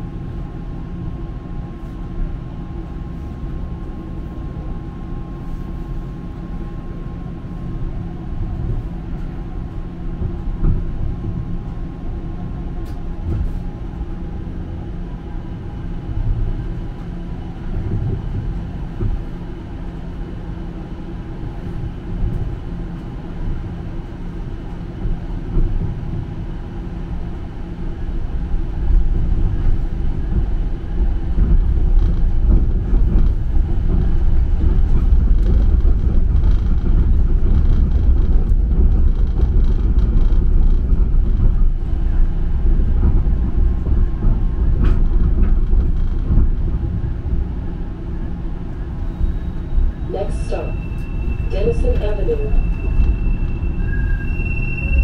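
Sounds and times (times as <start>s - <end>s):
streetcar wheels rumbling on rail: 0.0s - 55.0s.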